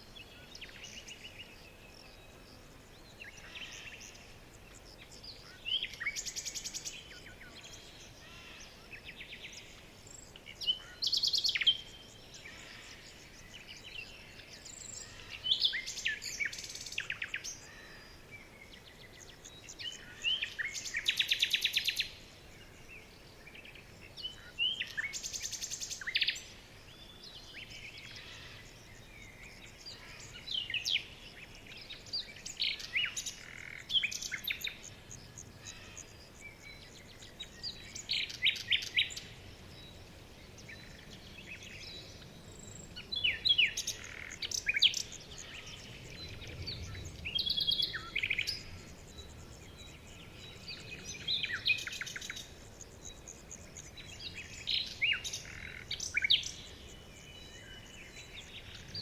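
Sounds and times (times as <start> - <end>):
faint background hiss: 0.0 - 59.0
songbirds chirping and trilling: 0.0 - 59.0.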